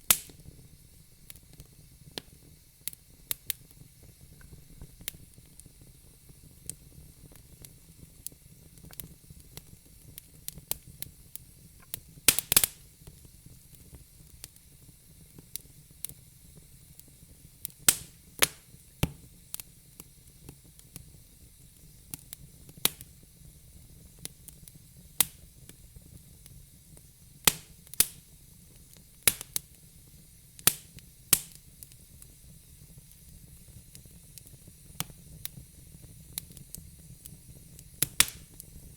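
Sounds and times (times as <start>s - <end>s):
logs crackling in fire: 0.0s - 38.9s.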